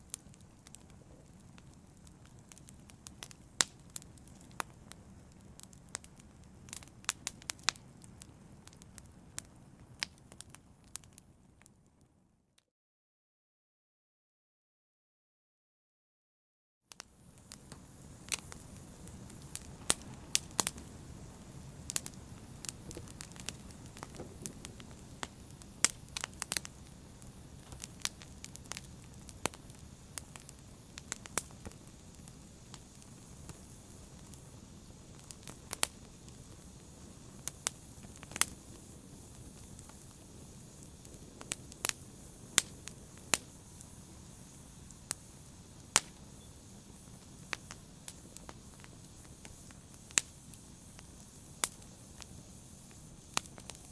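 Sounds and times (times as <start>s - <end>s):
fireplace fire crackling: 0.0s - 12.2s, 16.9s - 53.9s.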